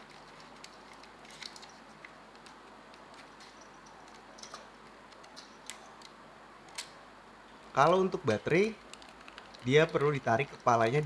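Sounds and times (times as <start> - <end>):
faint clicks and taps of small parts: 0.0 - 6.9, 7.6 - 11.0.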